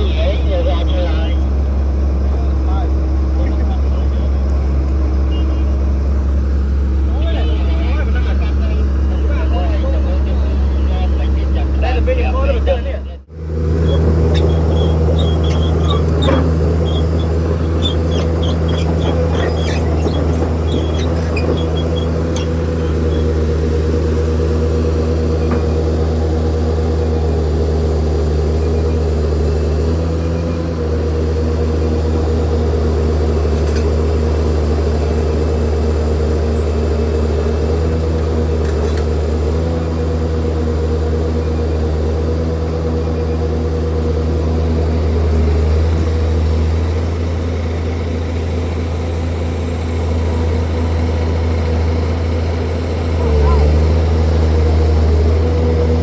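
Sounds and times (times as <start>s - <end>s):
heavy machinery diesel engine running: 0.0s - 56.0s.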